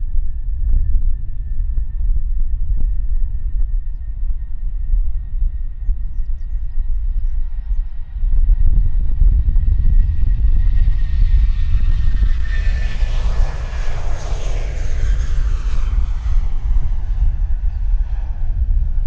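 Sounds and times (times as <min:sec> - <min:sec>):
jet engines at takeoff thrust: 0:00.0 - 0:19.0
wind rumble on microphone: 0:00.0 - 0:19.0.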